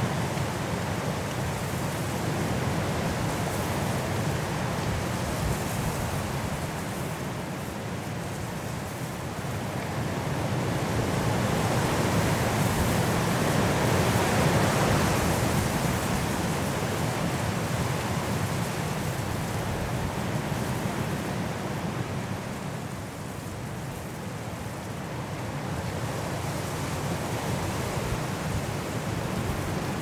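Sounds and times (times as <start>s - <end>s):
strong wind through trees: 0.0s - 30.0s.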